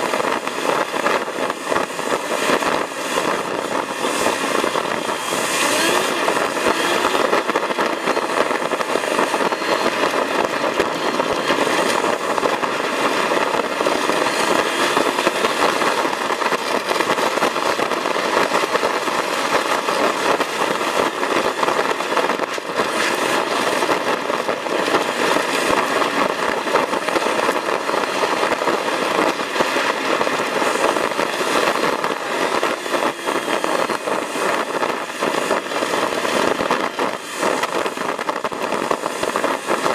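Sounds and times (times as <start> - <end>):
tyres crackling on gravel: 0.0 - 39.9
vehicle engine: 0.0 - 39.9.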